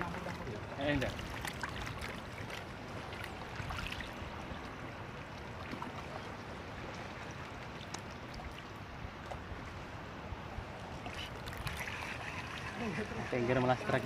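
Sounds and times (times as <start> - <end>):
rippling water: 0.0 - 14.0.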